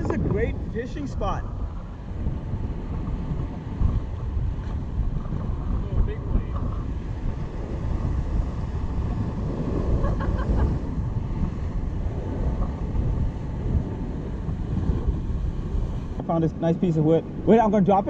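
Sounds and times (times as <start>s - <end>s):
ocean surf washing ashore: 0.0s - 18.0s
wind buffeting microphone: 0.0s - 18.0s.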